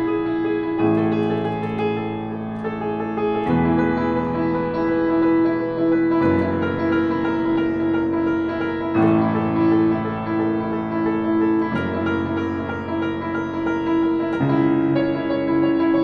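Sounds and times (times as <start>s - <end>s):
solo grand piano chords: 0.0s - 16.0s.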